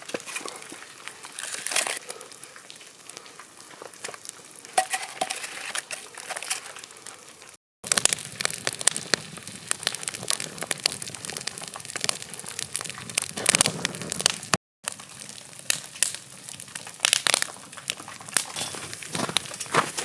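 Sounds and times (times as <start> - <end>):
wood campfire crackling: 0.0 - 20.0.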